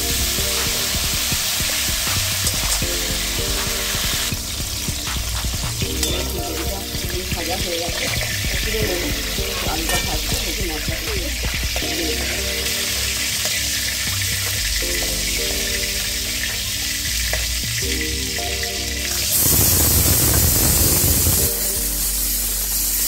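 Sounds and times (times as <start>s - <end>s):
hot oil sizzling: 0.0s - 23.0s.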